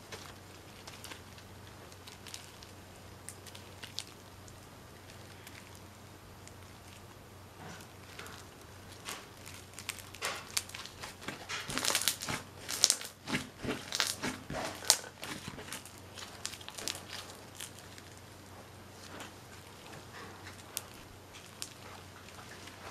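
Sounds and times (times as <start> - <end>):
crunchy slime crackling: 0.0 - 22.9.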